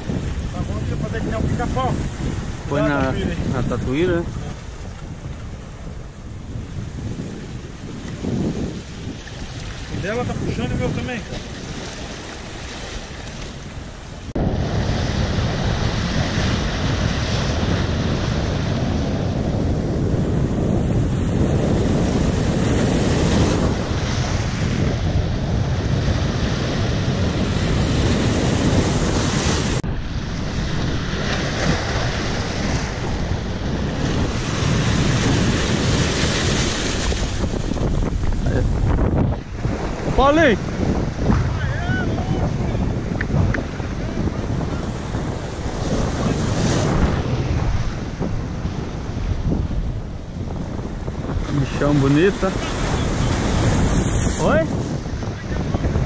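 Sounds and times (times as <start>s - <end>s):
sea surf: 0.0s - 56.0s
wind buffeting microphone: 0.0s - 56.0s.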